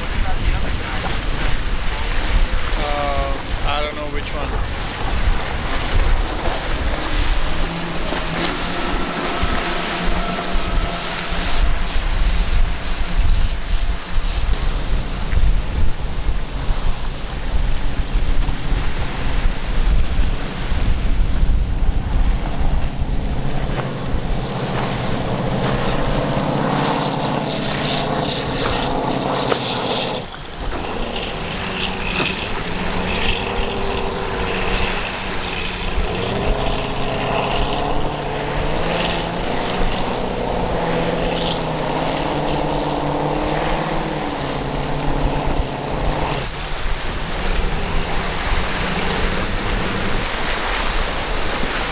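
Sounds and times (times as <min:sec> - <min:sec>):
rush of spray and surf: 0:00.0 - 0:51.9
speedboat engines running hard: 0:00.0 - 0:51.9
wind buffeting microphone: 0:00.0 - 0:51.9.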